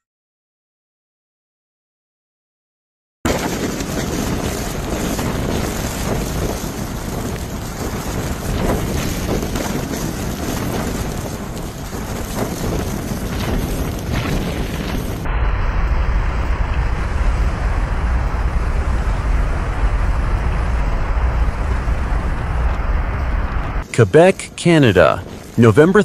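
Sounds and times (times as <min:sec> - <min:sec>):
wind buffeting microphone: 0:03.3 - 0:26.0.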